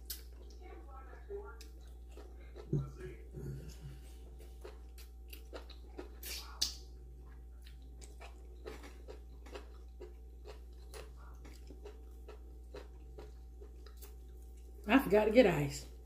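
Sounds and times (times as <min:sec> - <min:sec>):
person chewing food: 0:00.0 - 0:14.9.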